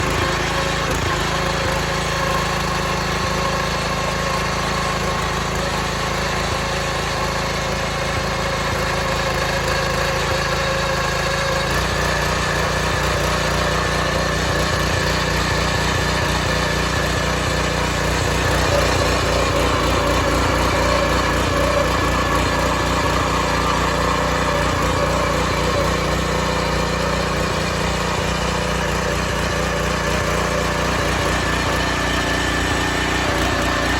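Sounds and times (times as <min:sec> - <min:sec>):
small petrol engine running: 0:00.0 - 0:33.9.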